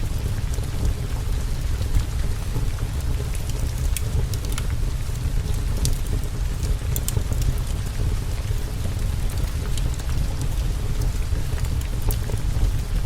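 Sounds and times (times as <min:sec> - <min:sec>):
continuous low rumble: 0:00.0 - 0:13.0
steady rain: 0:00.0 - 0:13.0.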